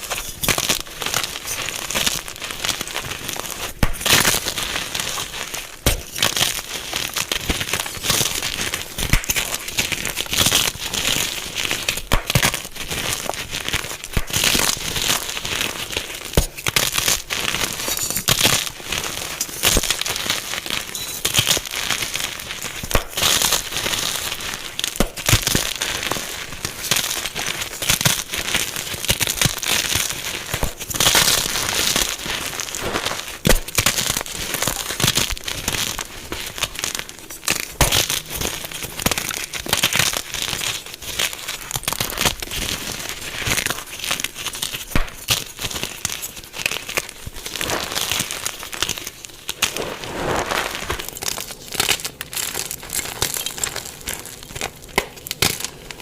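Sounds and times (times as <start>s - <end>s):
chalk blocks crunching: 0.0s - 55.7s.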